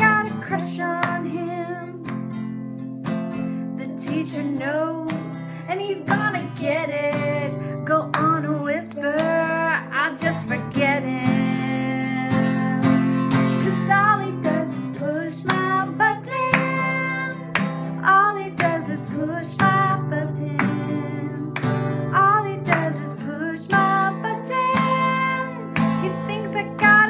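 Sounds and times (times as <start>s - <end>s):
woman singing: 0.0s - 2.4s, 3.6s - 27.0s
strummed acoustic guitar: 0.0s - 27.0s.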